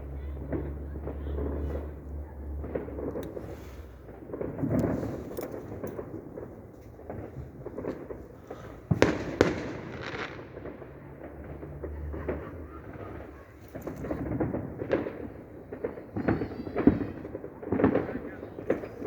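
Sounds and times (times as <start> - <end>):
fireworks popping and crackling: 0.0 - 19.0
sharp firework bangs: 0.0 - 19.0.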